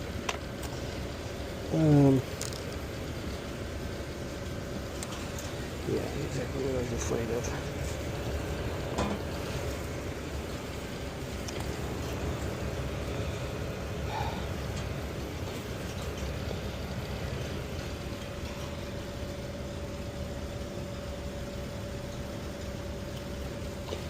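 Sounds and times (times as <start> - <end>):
faint steady whine: 0.0 - 24.0
low mechanical hum: 0.0 - 24.0.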